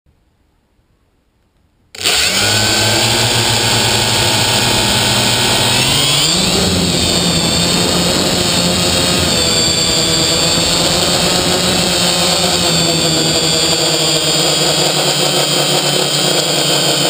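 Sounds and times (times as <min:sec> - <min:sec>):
drone motors whining: 0:02.0 - 0:17.0.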